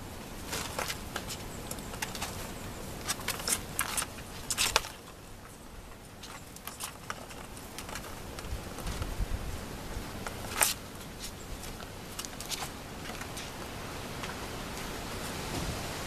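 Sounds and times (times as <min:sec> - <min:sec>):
straw rustling: 0:00.0 - 0:15.5.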